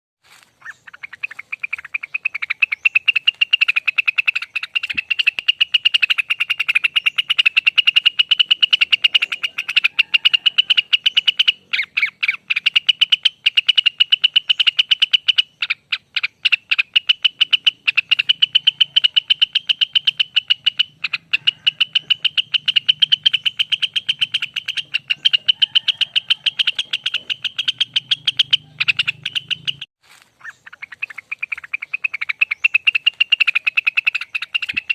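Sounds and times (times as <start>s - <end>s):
songbird rapid rolling trill: 0.6s - 34.9s.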